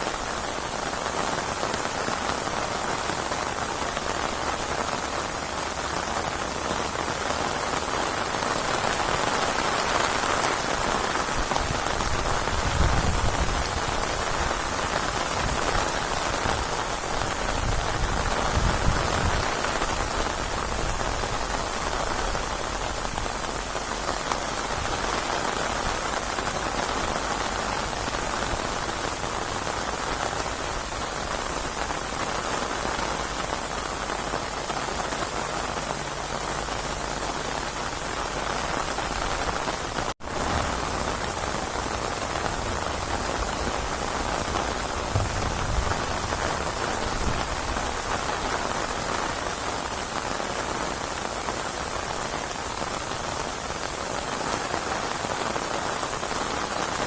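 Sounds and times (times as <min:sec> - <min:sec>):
dense rain falling: 0:00.0 - 0:57.0.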